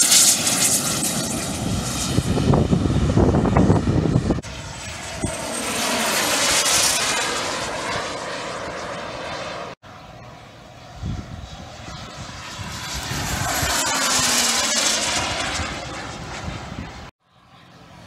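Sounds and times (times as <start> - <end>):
model airplane engines flying past: 0.0 - 18.0.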